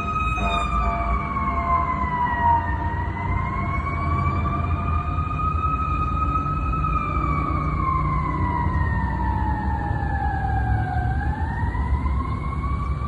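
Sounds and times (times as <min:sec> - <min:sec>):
siren wailing: 0:00.0 - 0:13.0
truck engine rumble: 0:00.0 - 0:13.0.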